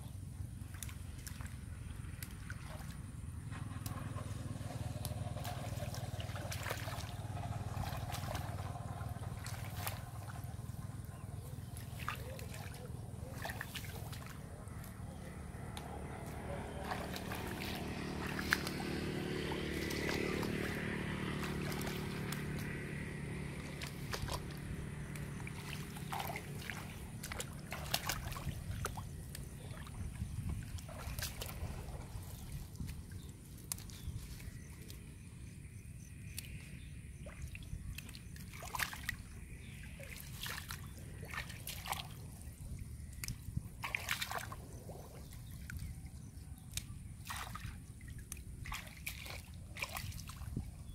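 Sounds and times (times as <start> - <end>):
muddy water sloshing: 0.0 - 50.9
water splashes: 0.0 - 50.9.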